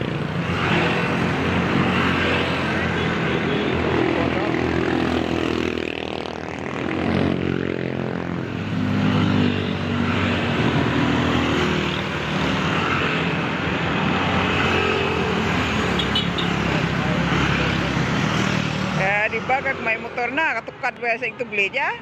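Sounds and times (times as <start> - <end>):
motorcycle engines running: 0.0 - 20.8.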